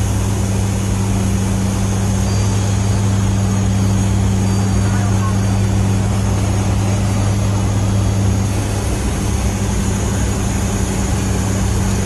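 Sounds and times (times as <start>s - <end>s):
turboprop engines humming: 0.0s - 12.0s.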